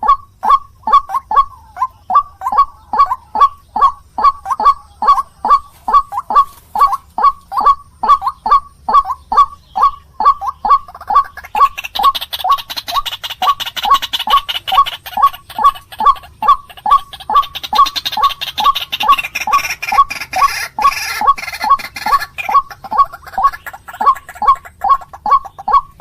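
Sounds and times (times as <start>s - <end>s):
waterhen honking calls: 0.0s - 26.0s.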